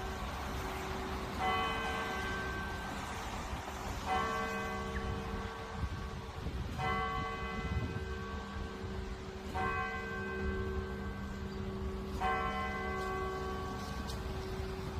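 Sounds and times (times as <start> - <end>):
clock tower bell striking: 0.0 - 3.0, 4.0 - 14.9.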